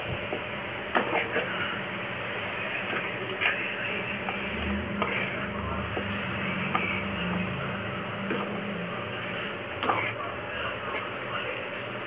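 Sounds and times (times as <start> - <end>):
carrot sizzling in oil: 0.0 - 11.3
spatula stirring in frying pan: 0.1 - 12.0.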